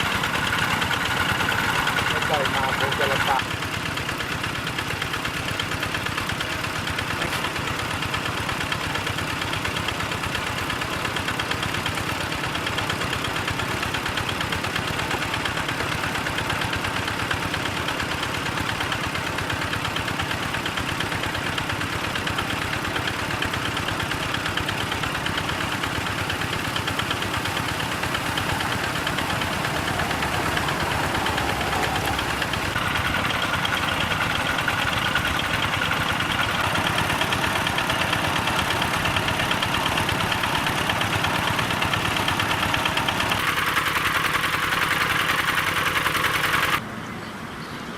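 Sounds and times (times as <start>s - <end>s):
small engine running a water pump: 0.0s - 46.8s.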